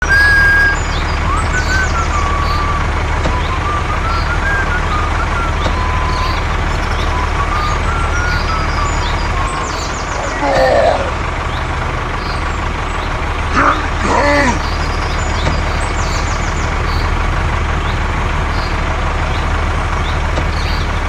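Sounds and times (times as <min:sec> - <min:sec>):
engine running with low throb: 0:00.0 - 0:21.0.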